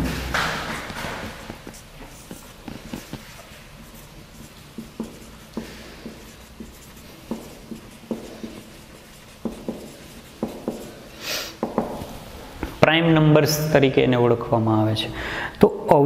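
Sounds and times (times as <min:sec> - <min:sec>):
marker pen on whiteboard: 0:00.0 - 0:13.8.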